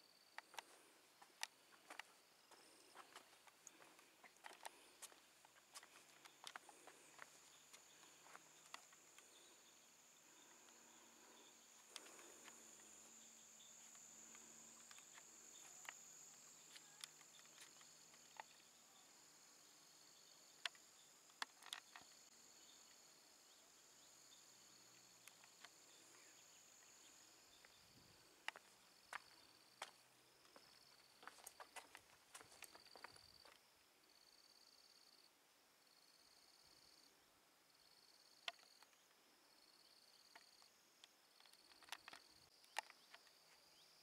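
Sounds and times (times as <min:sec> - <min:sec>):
insect chorus drone: 0:00.0 - 0:44.0.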